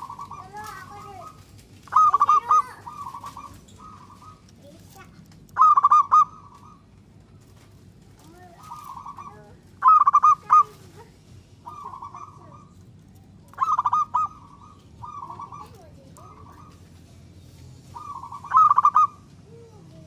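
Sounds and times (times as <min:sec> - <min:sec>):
dove cooing: 0:00.0 - 0:07.6, 0:08.2 - 0:17.1, 0:17.9 - 0:20.0.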